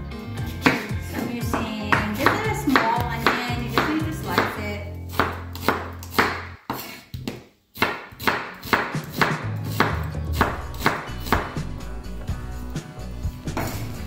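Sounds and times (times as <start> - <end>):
background music: 0.0 - 6.6, 8.1 - 14.0.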